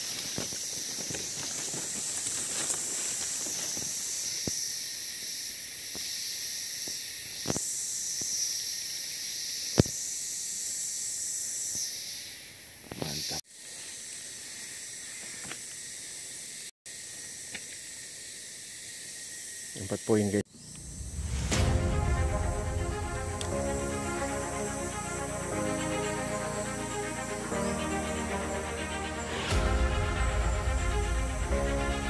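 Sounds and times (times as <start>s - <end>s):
chorus of forest insects: 0.0s - 32.0s.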